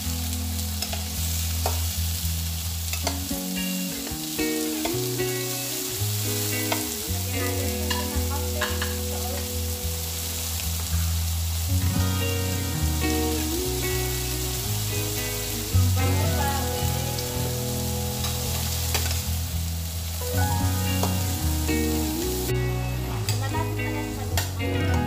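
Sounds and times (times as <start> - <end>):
shrimp sizzling in a pan: 0.0 - 25.0
background music: 3.1 - 10.6, 11.6 - 25.0.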